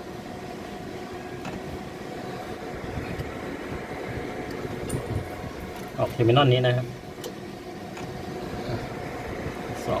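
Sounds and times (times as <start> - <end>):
small exhaust fans whirring: 0.0 - 10.0.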